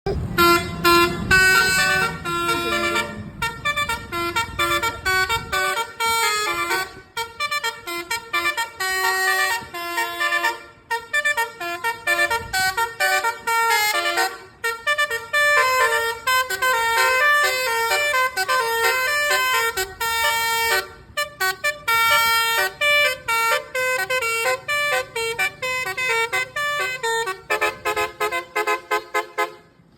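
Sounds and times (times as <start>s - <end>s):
multi-tone truck horn melody: 0.1s - 29.9s.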